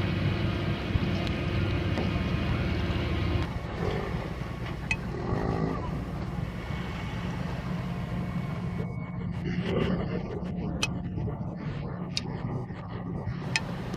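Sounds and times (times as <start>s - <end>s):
boat engine running: 0.0s - 13.9s.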